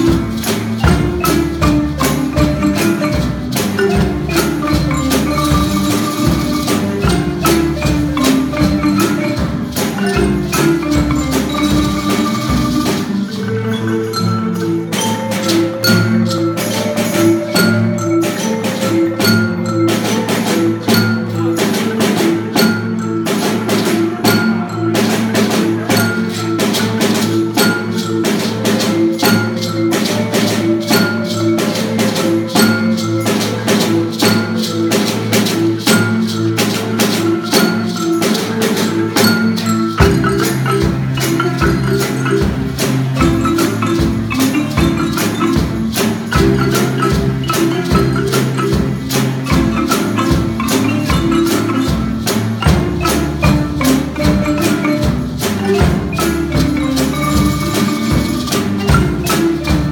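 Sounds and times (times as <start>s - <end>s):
deep bass marimba part: 0.0s - 59.9s
marimba ensemble playing: 0.0s - 59.9s.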